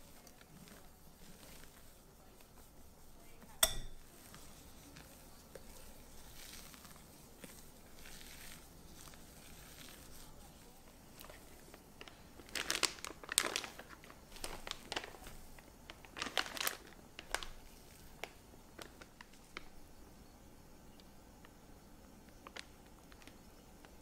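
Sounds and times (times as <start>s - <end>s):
plastic piping bag crinkling: 0.0s - 20.0s, 21.4s - 24.0s.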